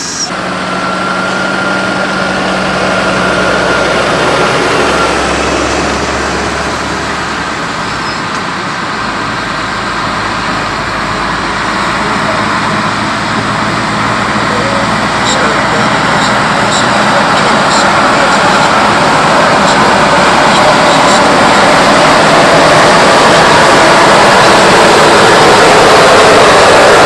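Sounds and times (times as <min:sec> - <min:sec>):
diesel tractor engine under load: 0:00.0 - 0:27.0.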